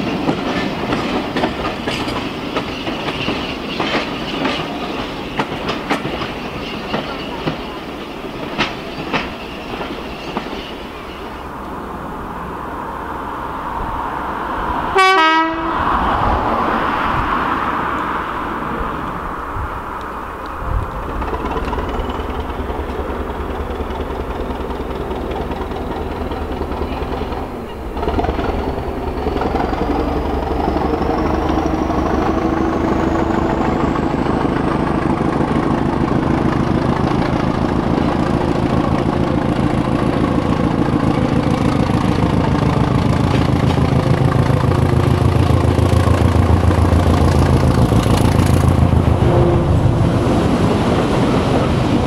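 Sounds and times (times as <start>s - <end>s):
diesel train engine throbbing: 0.0s - 52.0s.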